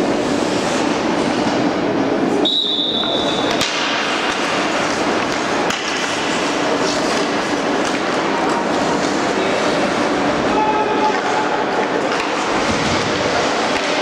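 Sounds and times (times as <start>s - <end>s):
skate blades scraping ice: 0.0s - 1.6s, 3.5s - 14.0s
arena hubbub: 0.0s - 14.0s.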